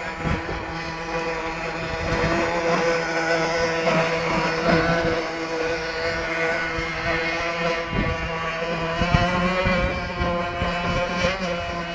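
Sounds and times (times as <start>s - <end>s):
model boat motor running: 0.0s - 11.9s.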